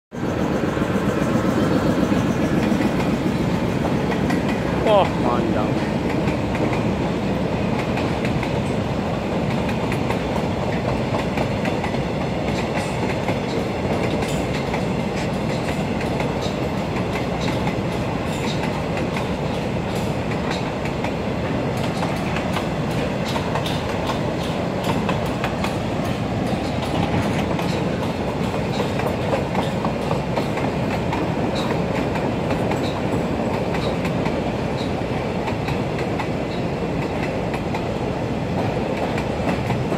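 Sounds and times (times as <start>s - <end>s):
freight train wagons rumbling: 0.1s - 39.9s
wheels clicking on track: 0.2s - 39.9s.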